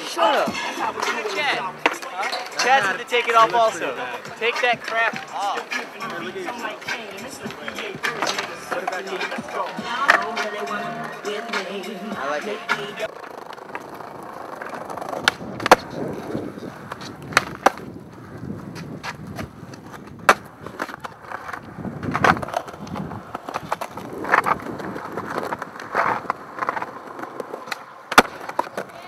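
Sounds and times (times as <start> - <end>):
skateboard clacking on ground: 0.0 - 29.0
skateboard wheels rolling on concrete: 0.0 - 29.0.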